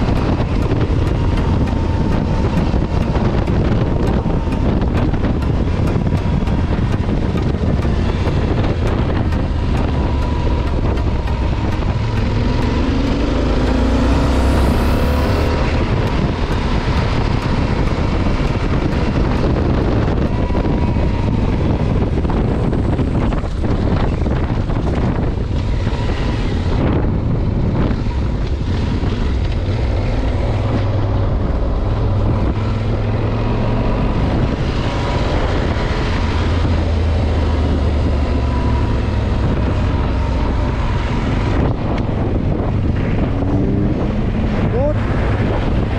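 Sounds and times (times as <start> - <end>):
motorcycle engine running: 0.0 - 45.9
wind noise on microphone: 0.0 - 45.9.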